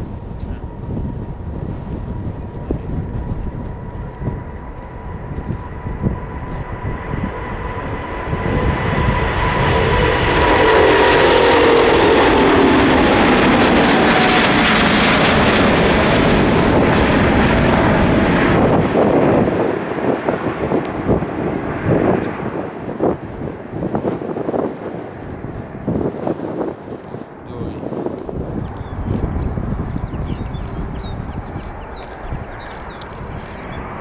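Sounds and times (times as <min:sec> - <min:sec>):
jet engines roaring at takeoff: 0:00.0 - 0:34.0.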